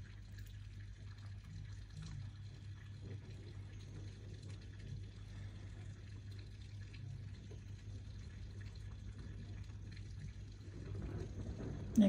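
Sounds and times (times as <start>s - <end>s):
faint rain falling: 0.0s - 12.0s
low steady hum: 0.0s - 12.0s.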